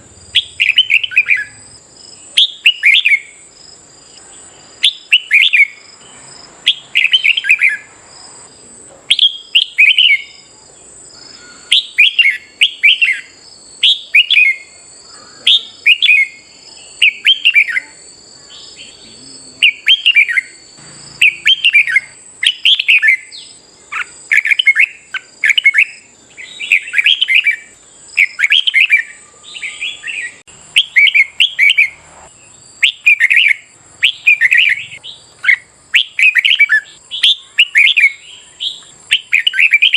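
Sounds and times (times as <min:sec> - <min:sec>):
bulbul song warbled phrases: 0:00.0 - 0:08.4, 0:09.0 - 0:39.9
thin steady high tone: 0:00.0 - 0:39.9.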